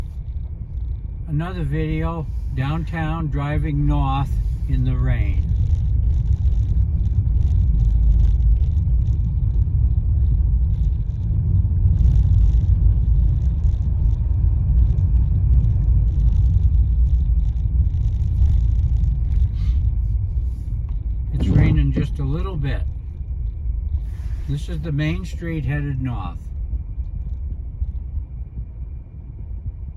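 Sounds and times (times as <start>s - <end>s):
engine and tyres rumbling: 0.0s - 29.9s
faint rain ticks: 0.1s - 28.2s.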